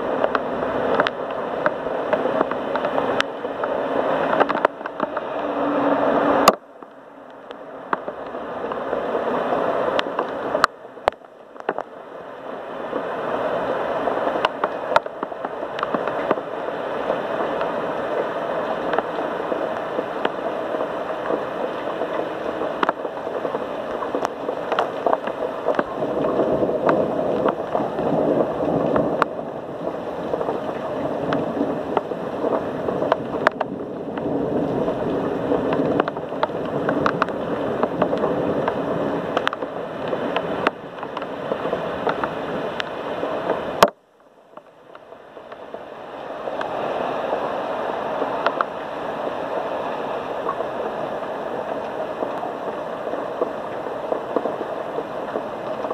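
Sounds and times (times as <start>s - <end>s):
heavy rain pouring: 0.0s - 55.9s
raindrops pattering: 0.0s - 55.9s.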